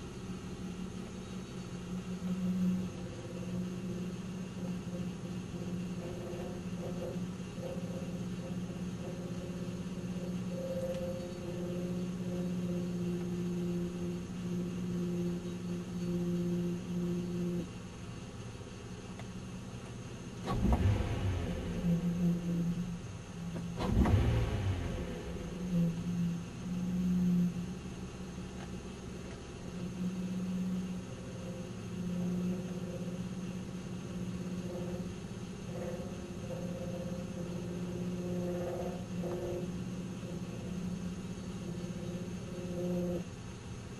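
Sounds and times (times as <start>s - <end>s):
car engine idling: 0.0s - 43.9s
droning humming resonance: 0.0s - 43.9s.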